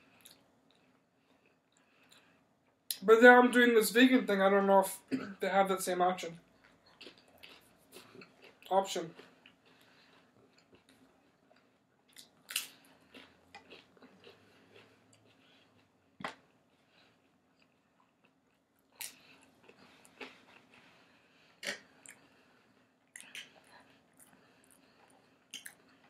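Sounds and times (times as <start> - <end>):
faint chewing: 0.0 - 3.0, 6.4 - 26.0.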